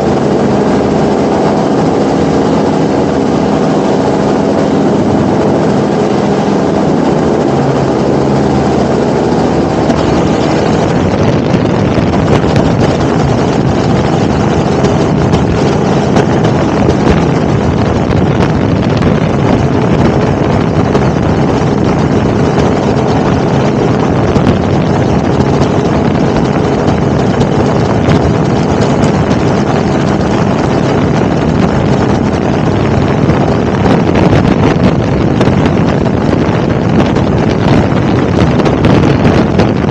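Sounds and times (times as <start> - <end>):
helicopter engine and rotor: 0.0 - 39.9
wind buffeting microphone: 0.0 - 39.9.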